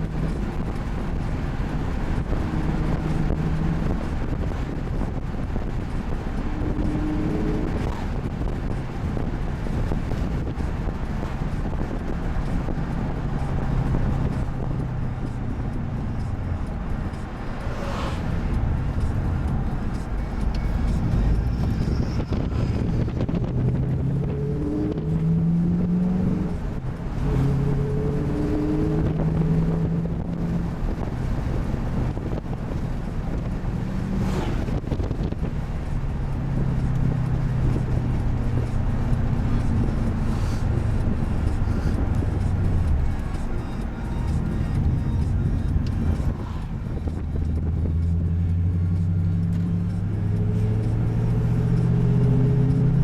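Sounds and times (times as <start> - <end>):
engine exhaust drone: 0.0 - 53.0
road and wind noise: 0.0 - 53.0.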